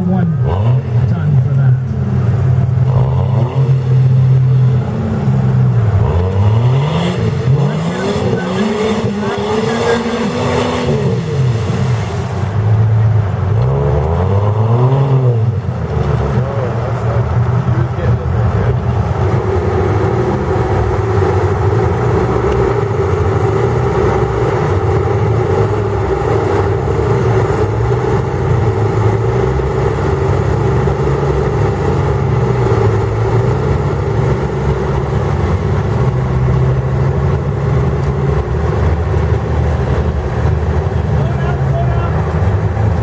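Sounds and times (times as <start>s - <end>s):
suv engine running: 0.0s - 43.0s.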